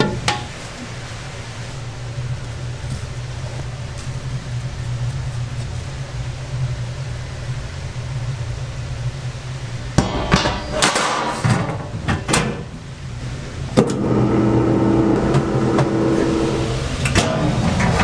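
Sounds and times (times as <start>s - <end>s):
steady low hum: 0.0s - 18.0s
steady pitched hum: 0.0s - 18.0s.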